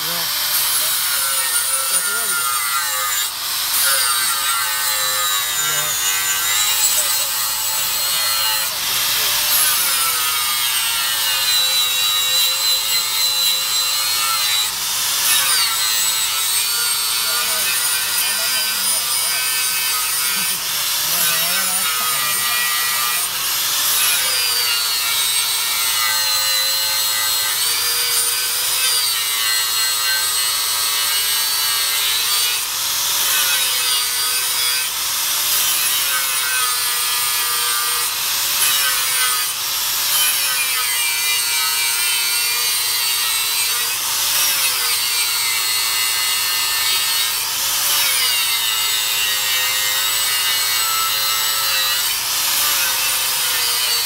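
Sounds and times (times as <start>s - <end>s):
angle grinder grinding metal: 0.0s - 54.0s.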